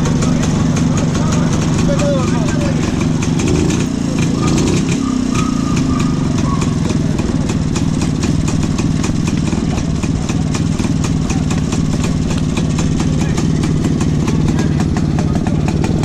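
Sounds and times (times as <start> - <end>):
two-stroke engine idling: 0.0 - 16.0.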